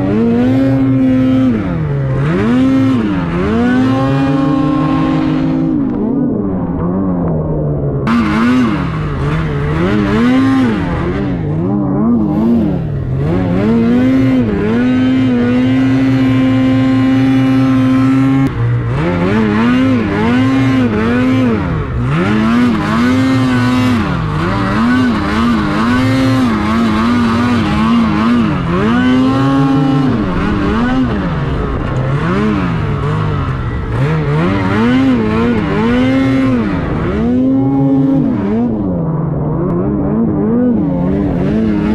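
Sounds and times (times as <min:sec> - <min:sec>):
snowmobile engine revving: 0:00.0 - 0:41.9.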